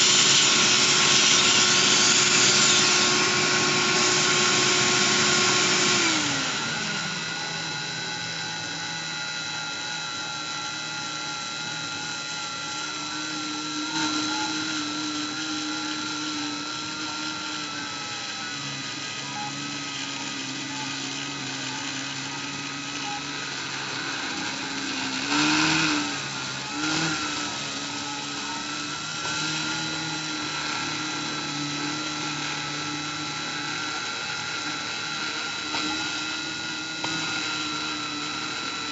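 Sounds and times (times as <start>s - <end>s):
rotary tool running: 0.0s - 38.9s
stepper motors whining: 0.0s - 38.9s.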